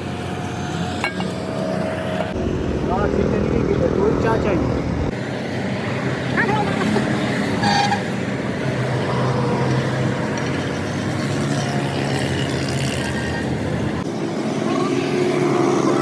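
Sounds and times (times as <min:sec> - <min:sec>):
engine humming: 0:00.0 - 0:14.1.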